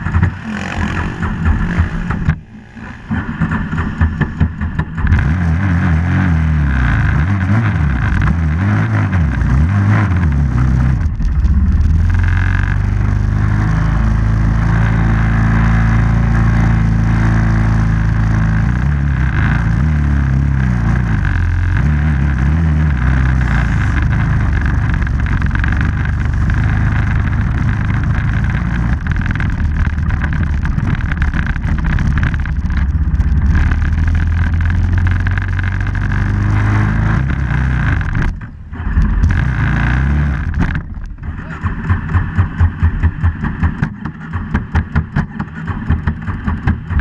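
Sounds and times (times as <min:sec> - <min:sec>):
vehicle engine revving: 0:00.0 - 0:47.0.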